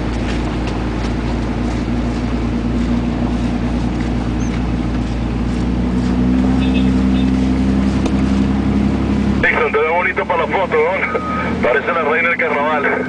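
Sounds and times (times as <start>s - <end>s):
vehicle engine running from inside: 0.0s - 13.0s.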